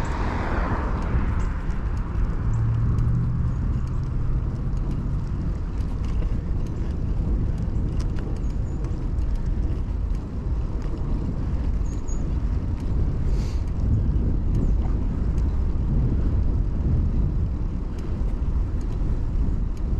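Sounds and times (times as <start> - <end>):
bicycle ticks and rattles: 0.0 - 19.9
wind and tyres on road: 0.0 - 19.9.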